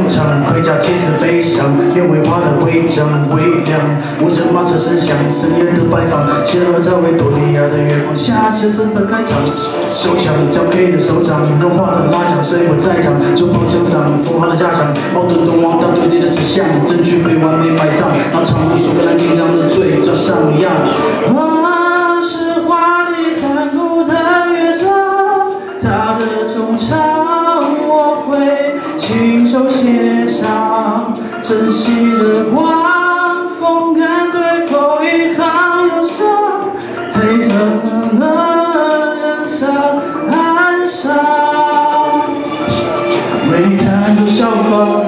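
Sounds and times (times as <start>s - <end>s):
backing track with beat: 0.0s - 45.0s
man singing pop song: 0.0s - 45.0s.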